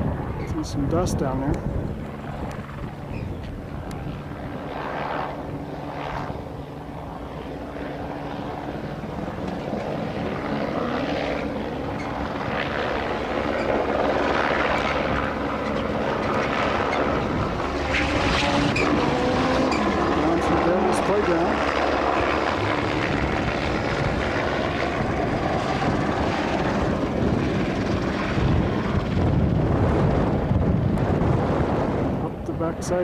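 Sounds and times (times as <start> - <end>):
distant engine drone: 0.0 - 33.0.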